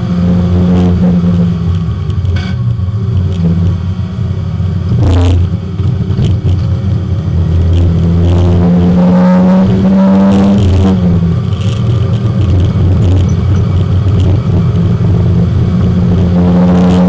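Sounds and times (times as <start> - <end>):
race car engine at speed: 0.0 - 17.0.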